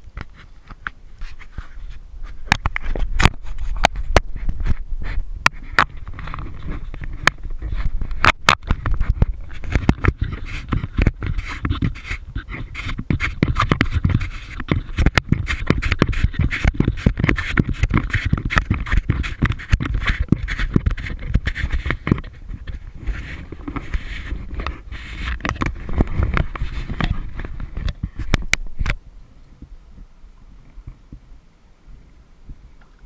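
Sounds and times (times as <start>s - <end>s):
wind rumble on microphone: 0.0s - 33.0s
water splashing around kayak: 0.1s - 31.2s.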